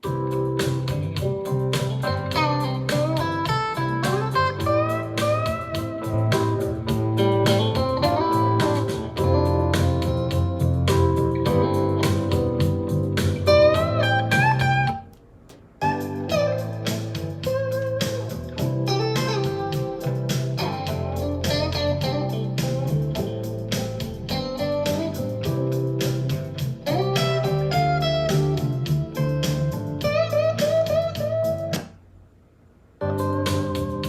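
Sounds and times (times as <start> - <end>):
electric guitar music with bass: 0.0 - 15.1, 15.7 - 31.9, 33.0 - 34.0.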